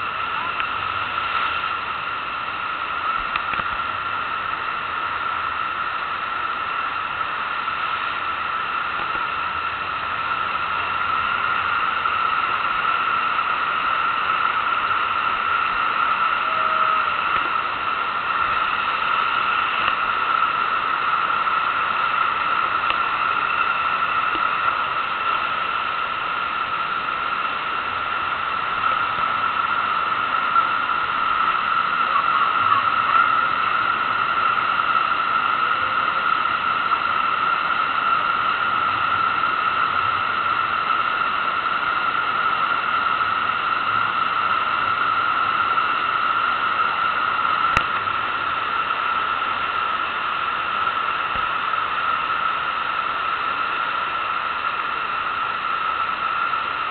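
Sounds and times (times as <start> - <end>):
constant hum: 0.0 - 56.9
rushing pumped water: 0.0 - 56.9.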